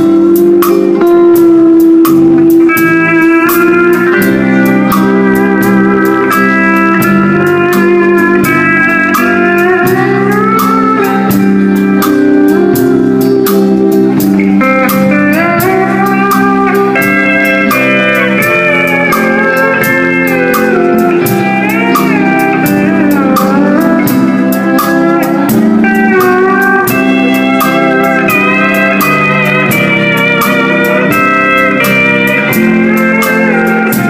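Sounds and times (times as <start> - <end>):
pedal steel guitar melody: 0.0 - 34.0.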